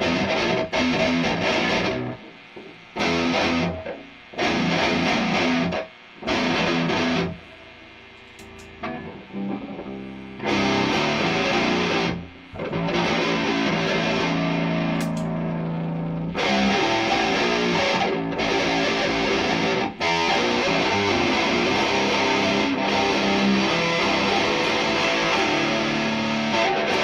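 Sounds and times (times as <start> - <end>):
distorted electric guitar chords: 0.0 - 27.0.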